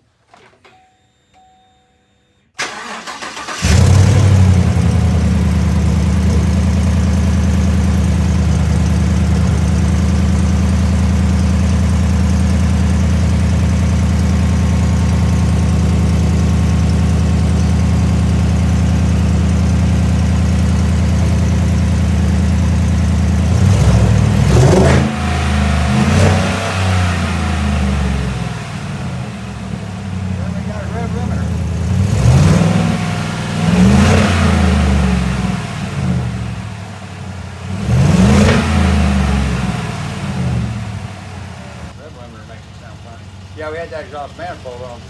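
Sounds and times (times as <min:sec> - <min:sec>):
car engine idling and revving: 0:02.6 - 0:45.0.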